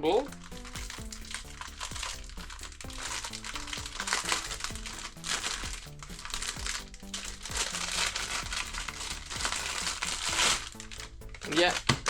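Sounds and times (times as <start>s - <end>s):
background music with beat: 0.0s - 12.0s
plastic packaging crinkling: 0.2s - 12.0s.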